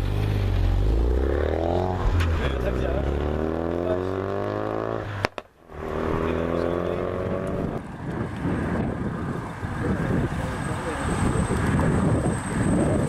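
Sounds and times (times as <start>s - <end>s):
car engines droning: 0.0s - 13.0s
cars approaching: 0.0s - 13.0s.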